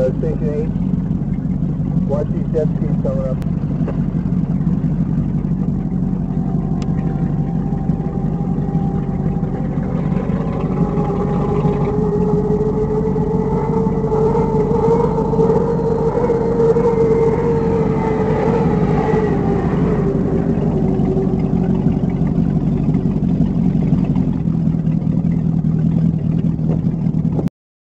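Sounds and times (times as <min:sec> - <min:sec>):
powerboat engine running: 0:00.0 - 0:27.5
water rushing along hull: 0:00.0 - 0:27.5.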